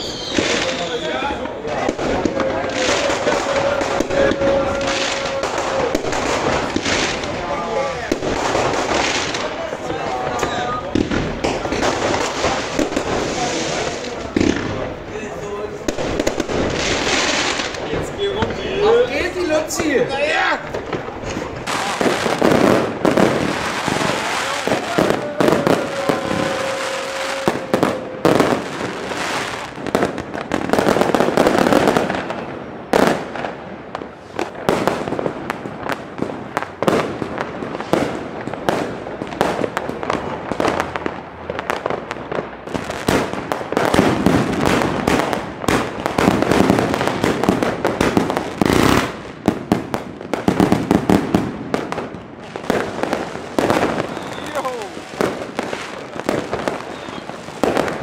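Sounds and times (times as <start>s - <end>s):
fireworks and firecrackers crackling: 0.0s - 58.0s
loud firework blasts: 0.0s - 58.0s.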